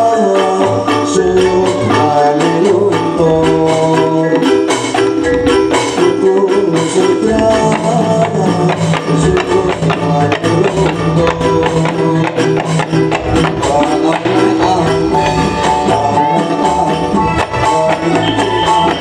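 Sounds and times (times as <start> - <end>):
keyboard melody of held notes: 0.0 - 19.0
steady percussion beat: 0.0 - 19.0.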